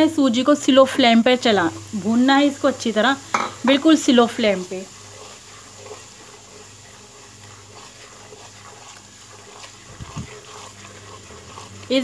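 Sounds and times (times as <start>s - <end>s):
semolina sizzling in ghee: 0.0s - 12.0s
spatula stirring in pan: 0.0s - 12.0s.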